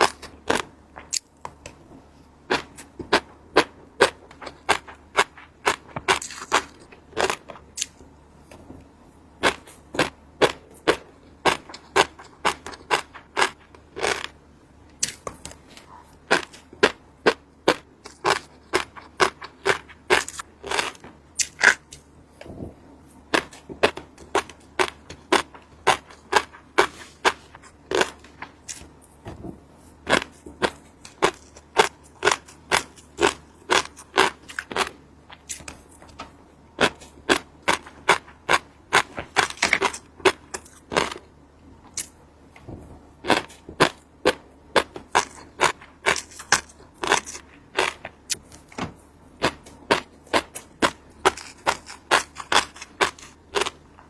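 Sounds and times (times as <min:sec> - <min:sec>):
fish roe crunching and popping: 0:00.0 - 0:08.7, 0:09.4 - 0:48.8, 0:49.4 - 0:54.0.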